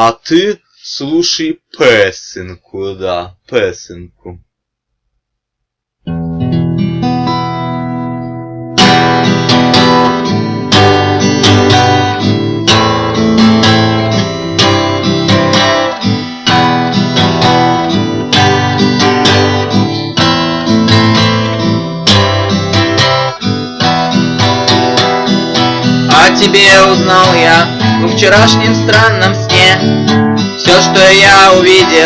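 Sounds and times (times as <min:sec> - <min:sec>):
acoustic guitar strumming: 0:06.0 - 0:32.0.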